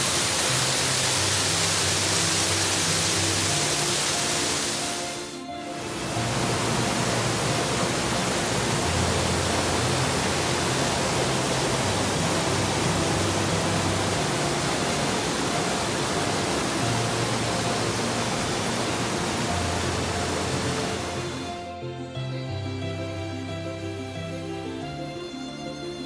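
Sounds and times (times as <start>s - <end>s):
waterfall rushing over rocks: 0.0s - 21.7s
faint background music: 0.0s - 26.0s.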